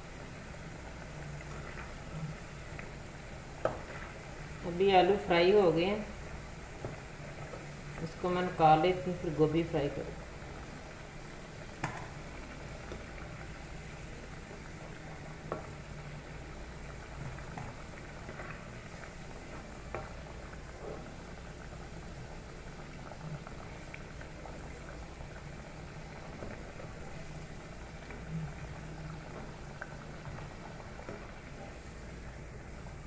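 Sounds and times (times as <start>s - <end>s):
oil sizzling in a pan: 0.0s - 33.0s.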